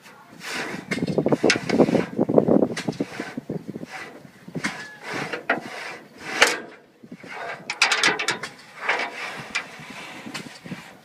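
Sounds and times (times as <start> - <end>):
tool scraping inside metal tubes: 0.4 - 11.0.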